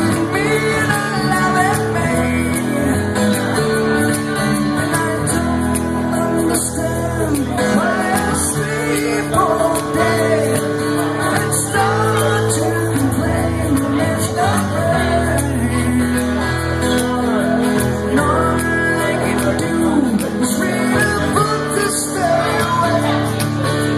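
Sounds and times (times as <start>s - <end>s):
guitar: 0.0s - 23.9s
person singing: 0.0s - 23.9s.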